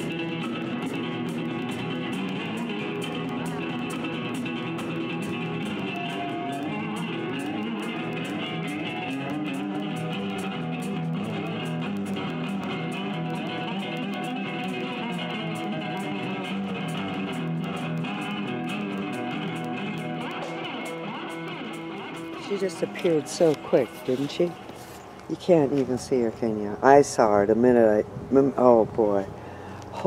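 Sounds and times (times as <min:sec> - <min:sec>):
plucked guitar music: 0:00.0 - 0:26.8.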